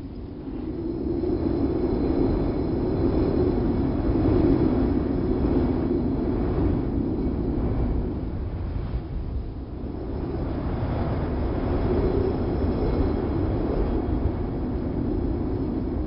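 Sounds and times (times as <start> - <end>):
wind rushing rumble: 0.0 - 16.0.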